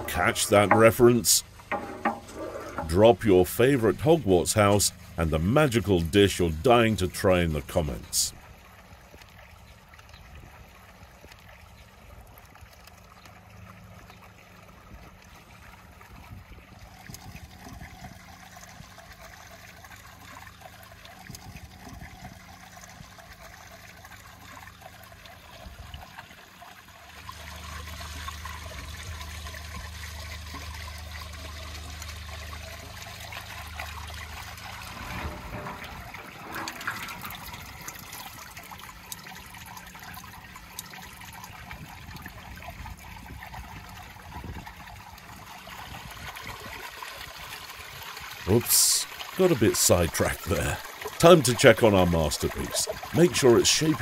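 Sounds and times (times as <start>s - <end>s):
low steady hum: 0.0s - 45.9s
whey trickling and dripping: 0.0s - 54.0s.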